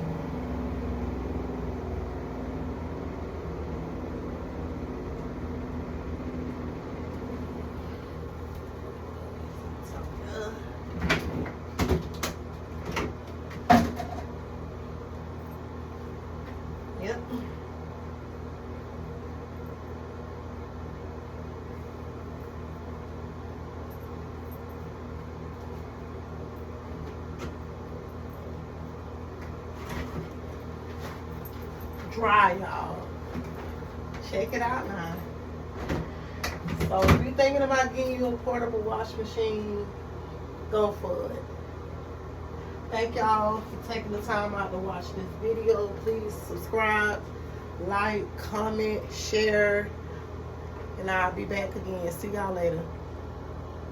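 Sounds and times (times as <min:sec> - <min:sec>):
spin dryer humming: 0:00.0 - 0:53.9.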